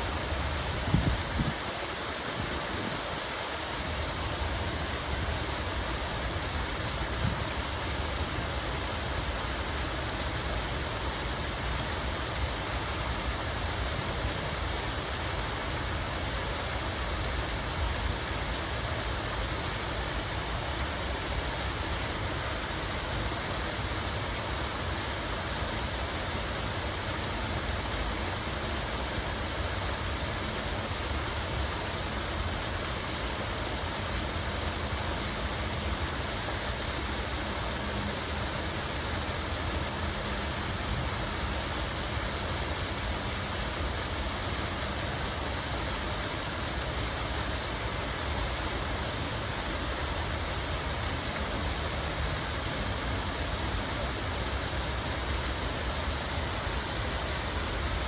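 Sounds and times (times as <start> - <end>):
rushing falling water: 0.0 - 58.0.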